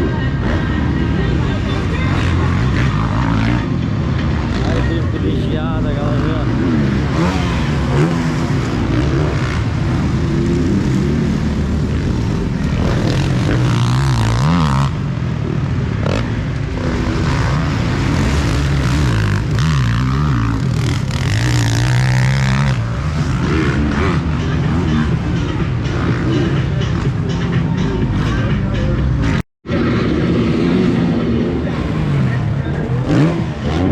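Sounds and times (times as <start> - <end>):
motocross motorcycles revving: 0.0 - 33.9.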